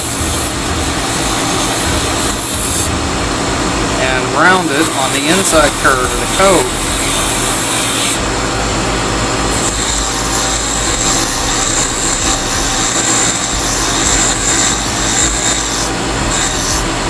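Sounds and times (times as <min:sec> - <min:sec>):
file rubbing on spinning wood: 0:00.0 - 0:03.0, 0:04.0 - 0:08.3, 0:09.4 - 0:17.0
wood lathe motor running: 0:00.0 - 0:17.0.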